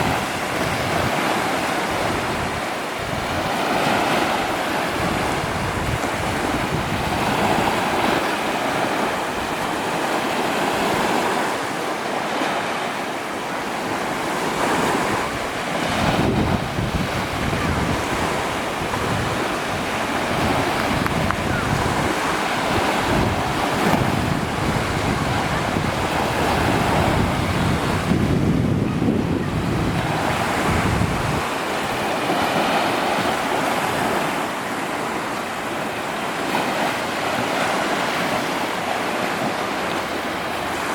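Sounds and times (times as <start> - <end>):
wind buffeting microphone: 0.0 - 11.6, 13.5 - 40.9
waves washing ashore: 0.0 - 40.9.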